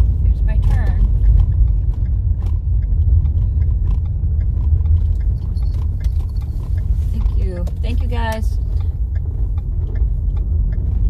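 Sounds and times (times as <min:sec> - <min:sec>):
car rumbling on dirt road: 0:00.0 - 0:11.0.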